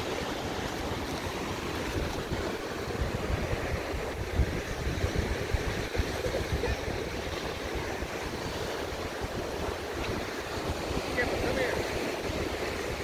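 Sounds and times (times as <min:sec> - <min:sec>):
surf washing at shoreline: 0:00.0 - 0:13.0
wind buffeting microphone: 0:00.0 - 0:13.0.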